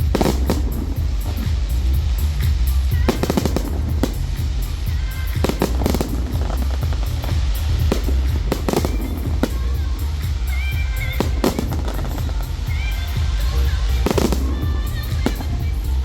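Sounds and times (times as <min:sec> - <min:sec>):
fireworks bangs and crackles: 0:00.0 - 0:16.0
loud music: 0:00.0 - 0:16.0.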